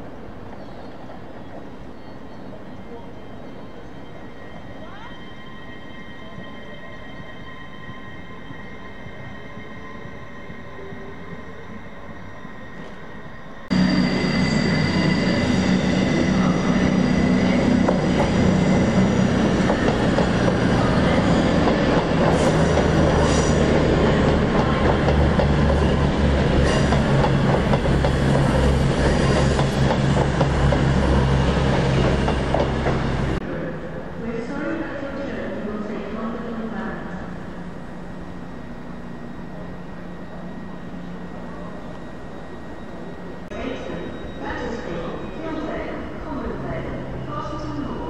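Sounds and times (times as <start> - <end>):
electric train approaching: 0.0 - 48.0
train wheel squeal: 0.4 - 33.4, 37.6 - 48.0
diesel train engine drone: 2.5 - 48.0.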